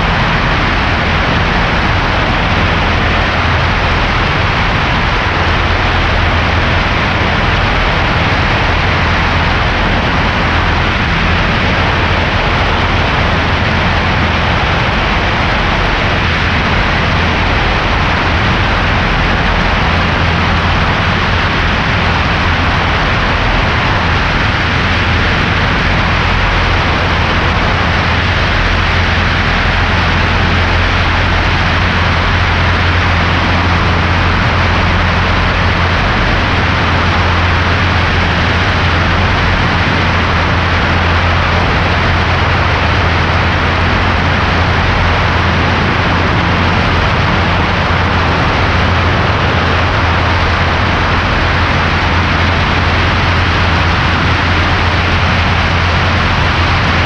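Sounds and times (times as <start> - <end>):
airplane engine and propeller: 0.0 - 57.0.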